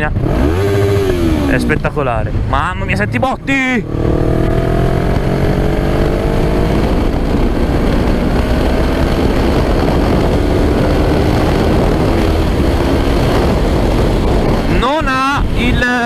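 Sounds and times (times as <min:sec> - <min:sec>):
motorcycle engine under way: 0:00.0 - 0:02.0, 0:03.8 - 0:15.0
wind rushing: 0:00.2 - 0:16.0.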